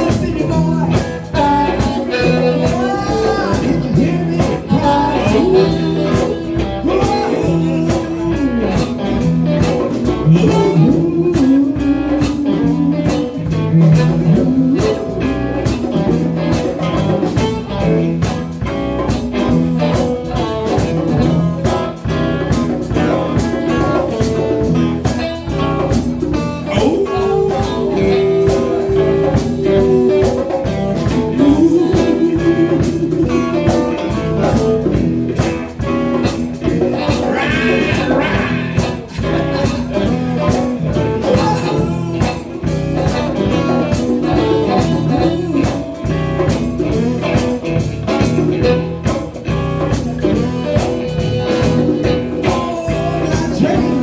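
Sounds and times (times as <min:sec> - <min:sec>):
blues band playing: 0:00.0 - 0:54.0
guitar bent notes: 0:00.0 - 0:54.0.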